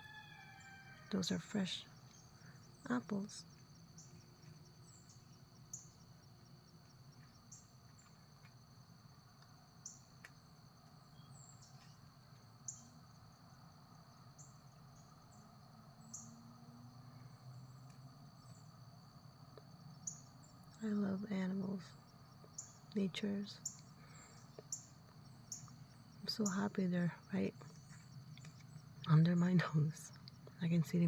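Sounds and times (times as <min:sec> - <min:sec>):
crickets and insects chirping: 0:00.0 - 0:31.0.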